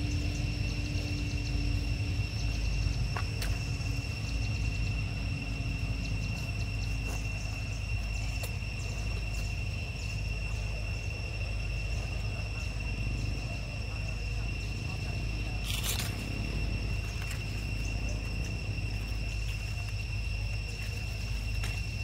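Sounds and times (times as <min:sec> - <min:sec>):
high-pitched insect drone: 0:00.0 - 0:22.0
low rumble: 0:00.0 - 0:22.0.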